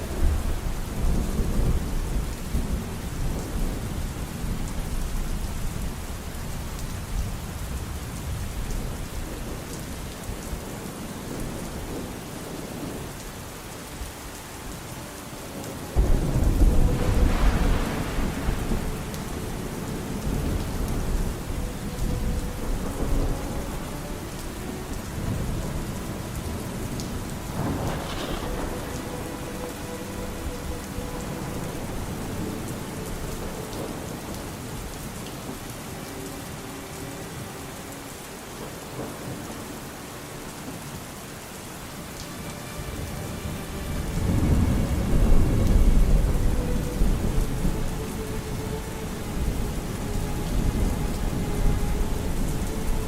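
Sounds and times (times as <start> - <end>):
thunder rumbling: 0.0 - 36.3, 42.1 - 53.0
faint distant music: 0.0 - 53.0
steady rain falling: 0.0 - 53.0.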